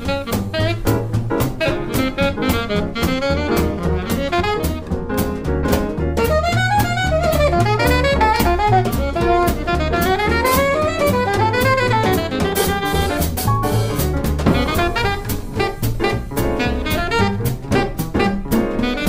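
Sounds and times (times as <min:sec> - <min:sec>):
alto saxophone solo: 0:00.0 - 0:05.2, 0:06.2 - 0:19.0
drums with cymbal strokes: 0:00.0 - 0:19.0
piano: 0:00.0 - 0:19.0
plucked double bass: 0:00.0 - 0:19.0.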